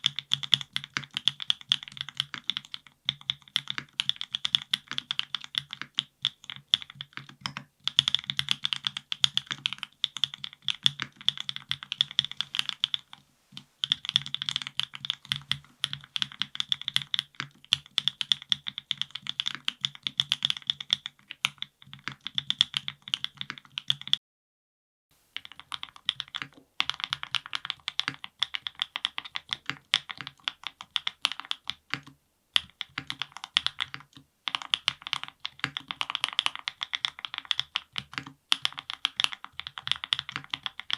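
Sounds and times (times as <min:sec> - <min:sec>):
typing on mechanical keyboard: 0:00.0 - 0:13.2, 0:13.8 - 0:24.2, 0:25.4 - 0:40.9.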